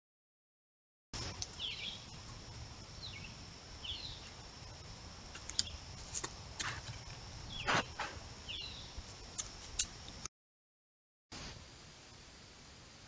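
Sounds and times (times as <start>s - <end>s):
steady high hiss: 1.2s - 10.3s, 11.3s - 13.0s.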